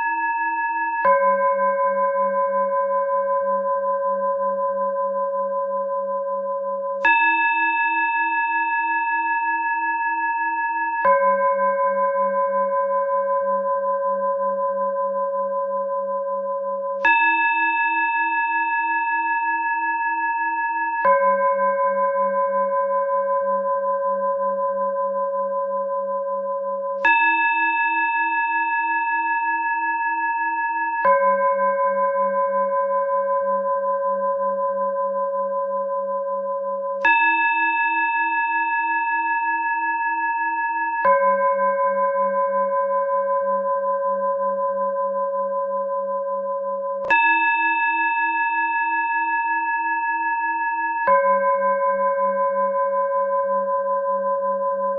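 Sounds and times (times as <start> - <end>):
low singing bowl with wobble: 0.0 - 50.0, 51.0 - 54.9
high singing bowl ringing: 0.0 - 54.9.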